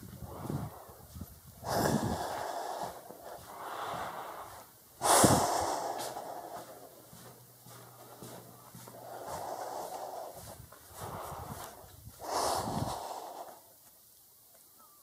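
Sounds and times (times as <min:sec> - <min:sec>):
person breathing heavily: 0:00.0 - 0:13.8.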